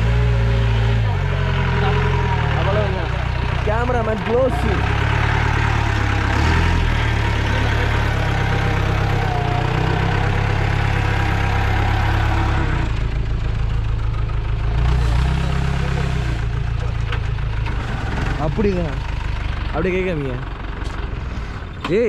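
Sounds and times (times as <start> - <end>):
jeep engine running: 0.0 - 22.0.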